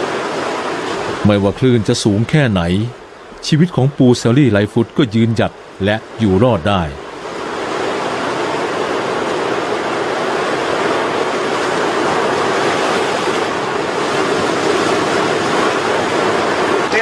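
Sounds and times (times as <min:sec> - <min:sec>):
surf breaking over rocks: 0:00.0 - 0:17.0.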